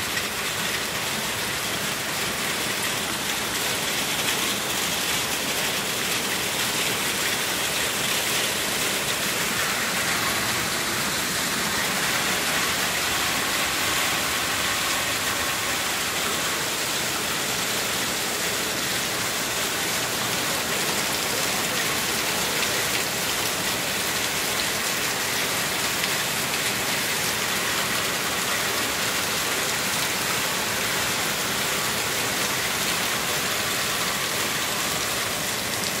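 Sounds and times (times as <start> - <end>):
hail falling heavily: 0.0 - 36.0.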